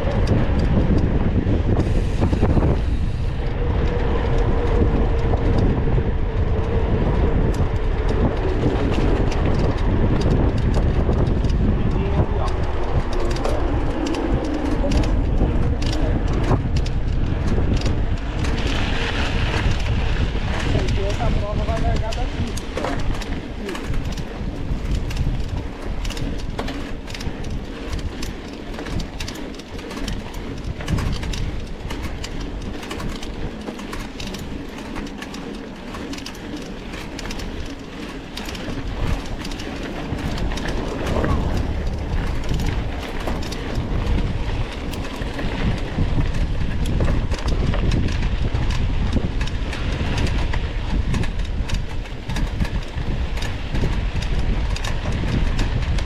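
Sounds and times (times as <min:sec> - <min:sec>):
bike rattling over dirt trail: 0:00.0 - 0:56.0
wind rumbling on microphone: 0:00.0 - 0:56.0.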